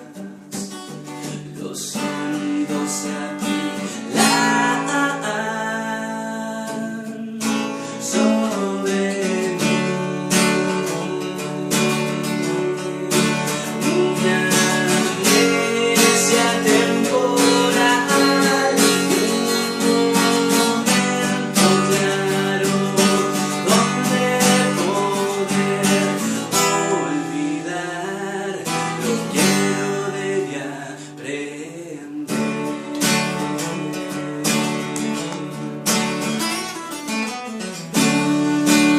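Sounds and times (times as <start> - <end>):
acoustic guitar strummed and picked: 0.0 - 38.9.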